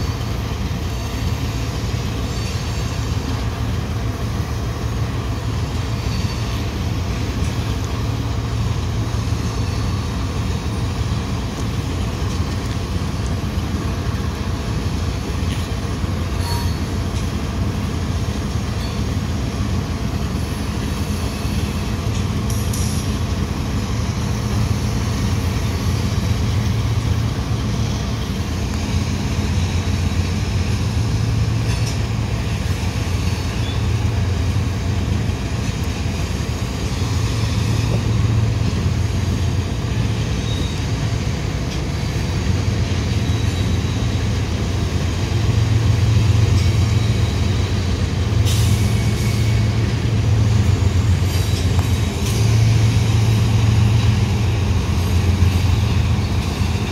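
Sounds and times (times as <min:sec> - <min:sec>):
hopper cars rumbling on rails: 0:00.0 - 0:56.9.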